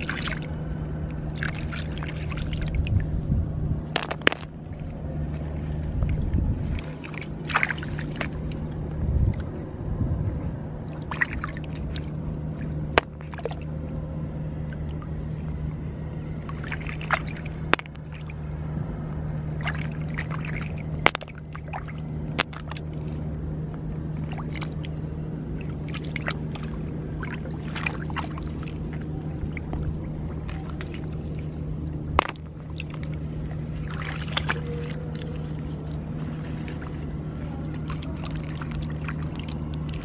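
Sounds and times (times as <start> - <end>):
steady low hum: 0.0 - 40.0
water sloshing and trickling: 0.0 - 40.0.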